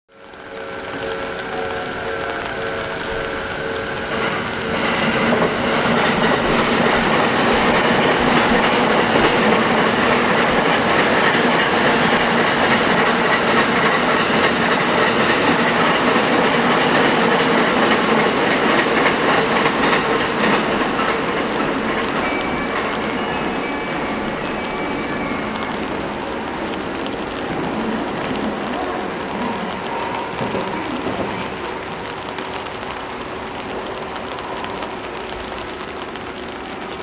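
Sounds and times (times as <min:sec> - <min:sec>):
train running on rails: 0:00.1 - 0:37.0
wheels clacking over rail joints: 0:00.3 - 0:37.0.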